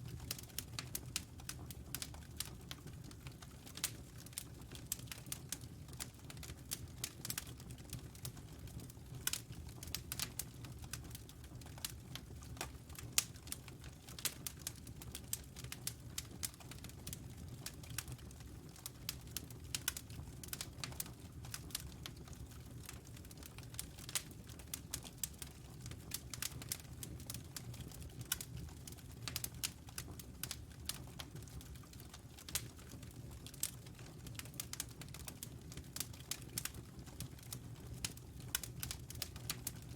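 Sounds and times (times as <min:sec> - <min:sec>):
wood fire crackling: 0:00.0 - 0:39.9
low rumble of flames: 0:00.1 - 0:39.9.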